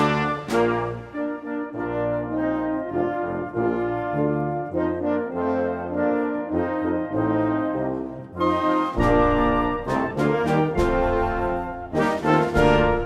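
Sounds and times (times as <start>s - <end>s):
instrumental music of held notes: 0.0s - 13.0s.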